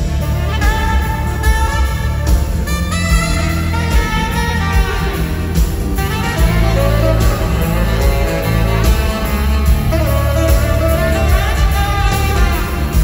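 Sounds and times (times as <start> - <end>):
band rhythm section: 0.0 - 13.0
saxophone solo: 0.0 - 13.0.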